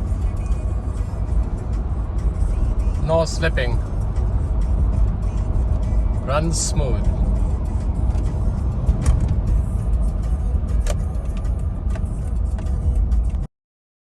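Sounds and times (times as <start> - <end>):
engine and road noise in cabin: 0.0 - 13.5.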